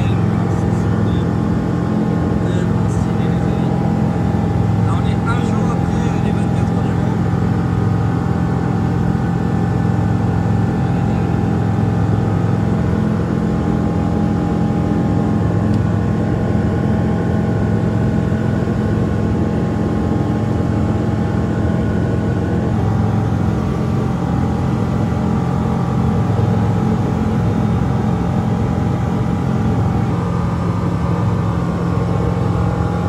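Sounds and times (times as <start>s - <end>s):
light aircraft engine drone: 0.0s - 33.0s.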